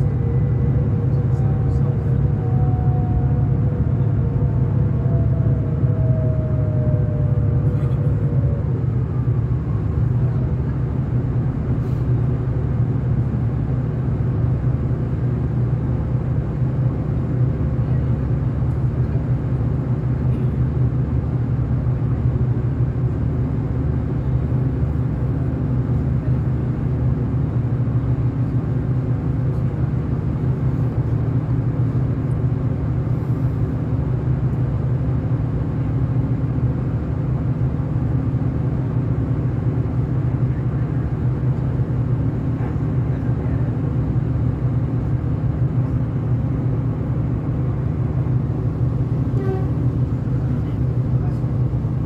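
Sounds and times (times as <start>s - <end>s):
train engine and wheels rumbling: 0.0s - 52.0s.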